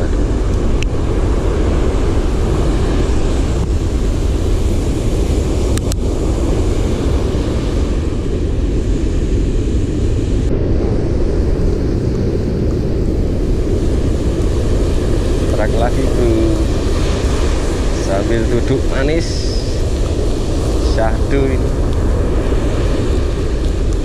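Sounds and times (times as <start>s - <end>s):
surf breaking on beach: 0.0s - 24.0s
wind buffeting microphone: 0.0s - 24.0s.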